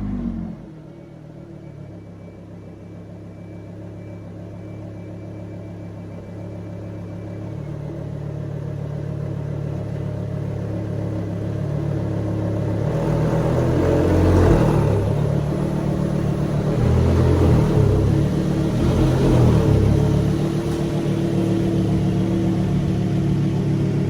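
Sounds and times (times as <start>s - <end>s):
sports car engine exhaust: 0.0s - 24.0s.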